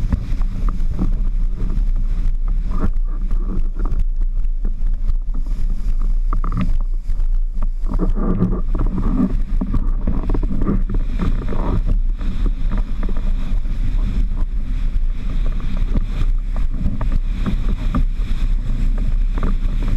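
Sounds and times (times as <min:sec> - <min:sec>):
water rushing and splashing: 0:00.0 - 0:19.9
wind rumbling on microphone: 0:00.0 - 0:19.9.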